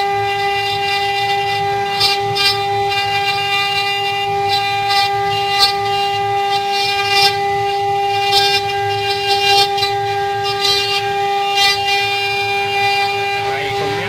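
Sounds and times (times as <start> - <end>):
router cutting wood: 0.0 - 14.0.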